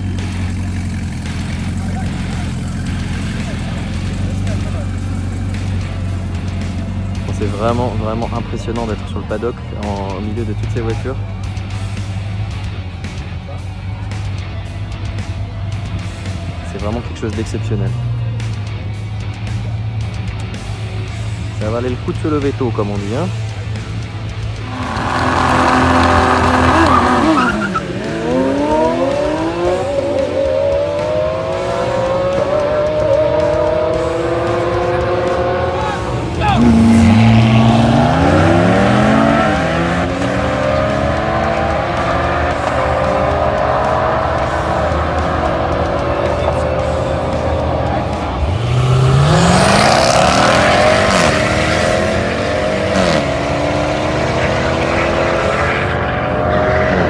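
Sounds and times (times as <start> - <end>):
sports car engine accelerating: 0.0 - 57.0.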